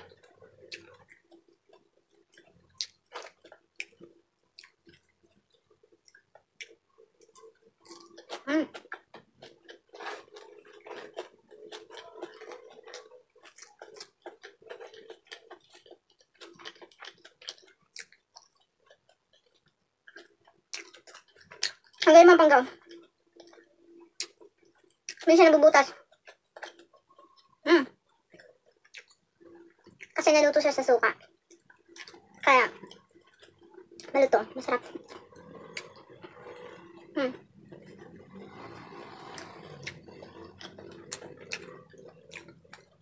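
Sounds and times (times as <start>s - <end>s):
close chewing: 0.0s - 30.3s, 31.0s - 43.0s.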